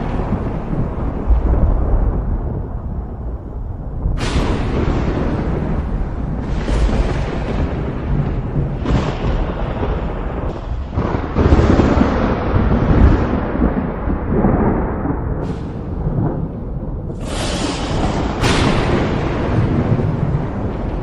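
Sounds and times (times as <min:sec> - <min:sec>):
thunder claps: 0:00.0 - 0:21.0
thunder rumbling: 0:00.0 - 0:21.0.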